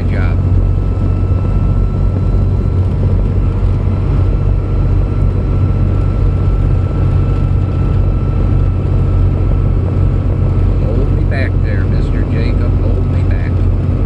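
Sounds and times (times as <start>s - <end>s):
diesel engine droning: 0.0s - 14.0s
faint steady whine: 0.0s - 14.0s.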